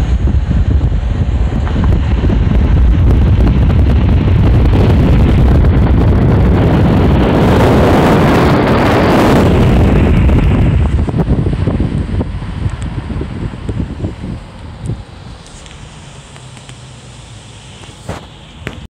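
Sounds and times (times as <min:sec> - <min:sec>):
road and tyre noise: 0:00.0 - 0:18.9
wind buffeting microphone: 0:00.0 - 0:18.9.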